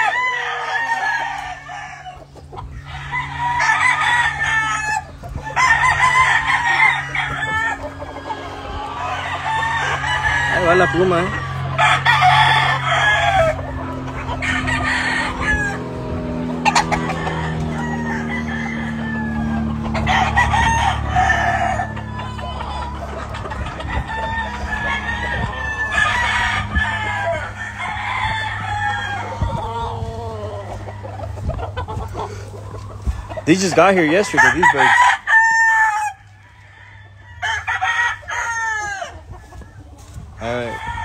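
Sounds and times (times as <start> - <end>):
chickens clucking: 0.0 - 41.0
roosters crowing: 0.0 - 41.0.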